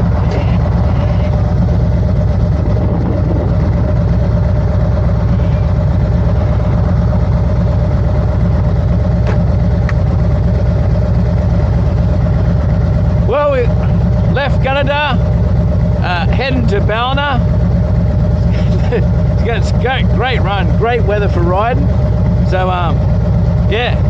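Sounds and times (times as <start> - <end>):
motorcycle engine droning: 0.0 - 24.0.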